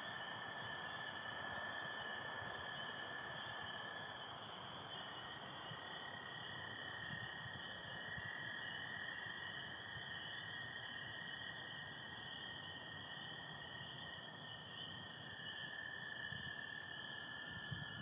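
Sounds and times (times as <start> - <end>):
chorus of frogs peeping: 0.0 - 18.0.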